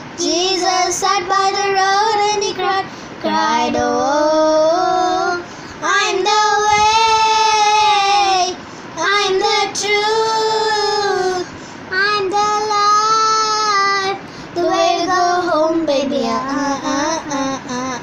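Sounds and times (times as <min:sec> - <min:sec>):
girls singing unaccompanied: 0:00.2 - 0:17.4.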